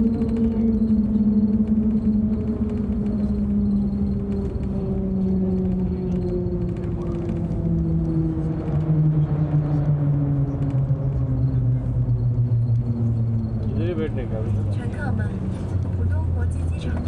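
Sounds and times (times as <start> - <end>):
train braking rumble and whine: 0.0 - 17.0.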